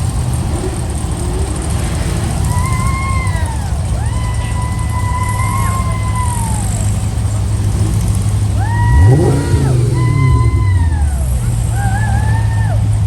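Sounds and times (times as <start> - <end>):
car engines running: 0.0 - 13.0
engine revving sharply: 0.0 - 13.0.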